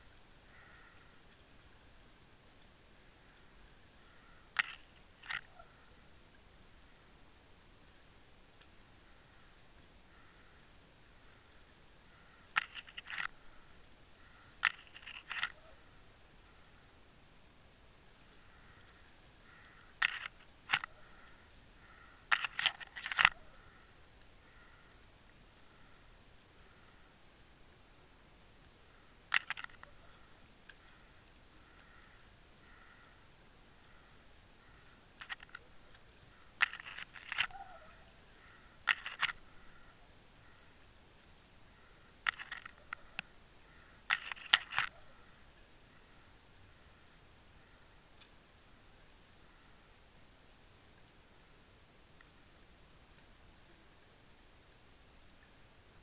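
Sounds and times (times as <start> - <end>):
faint hiss: 0.0 - 56.0.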